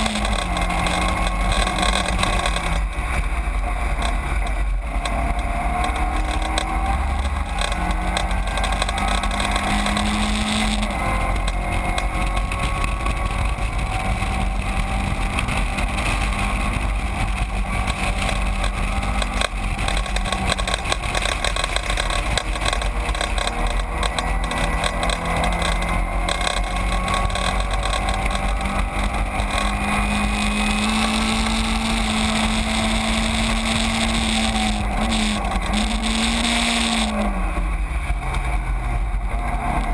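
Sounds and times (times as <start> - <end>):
racing car engine running hard: 0.0 - 39.9
wind noise: 0.0 - 39.9.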